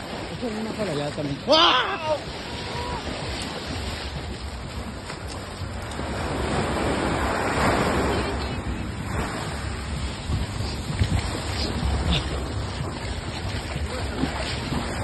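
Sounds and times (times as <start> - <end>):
small waves breaking on sand: 0.0 - 15.0
wind buffeting microphone: 0.0 - 15.0.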